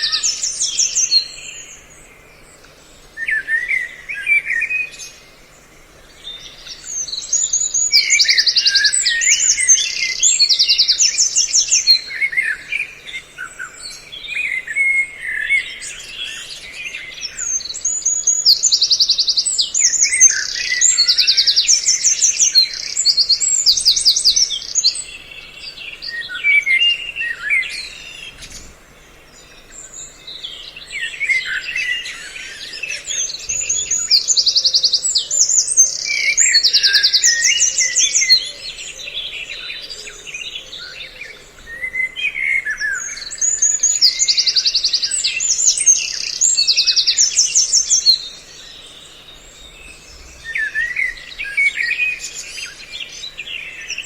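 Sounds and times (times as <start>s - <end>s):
songbirds chattering trills and chirps: 0.0s - 54.0s.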